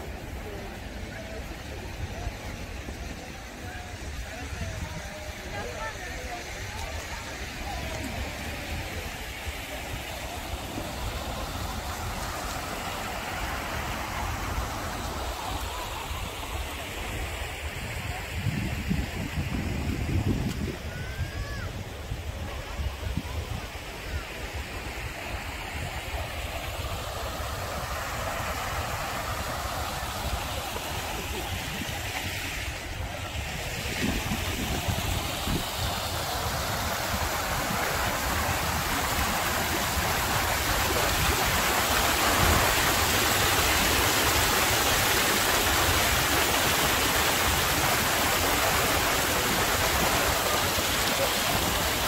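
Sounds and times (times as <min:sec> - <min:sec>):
stream water rushing: 0:00.0 - 0:52.0.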